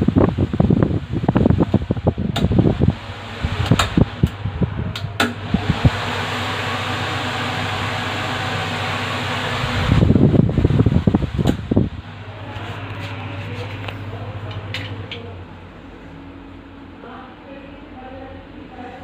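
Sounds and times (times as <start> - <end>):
ceiling fan whooshing and humming: 0.0 - 19.0
loud irregular low rumbling: 0.0 - 19.0.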